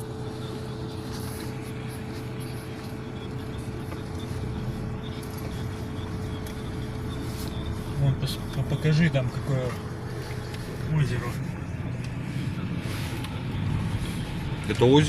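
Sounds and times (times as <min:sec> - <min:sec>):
car engine and road noise: 0:00.0 - 0:15.0
low hum: 0:00.0 - 0:15.0.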